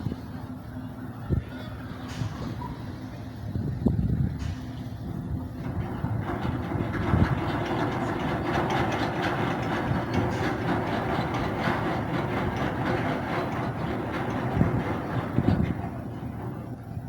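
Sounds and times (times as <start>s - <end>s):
heavy engine rumbling drone: 0.0s - 17.0s.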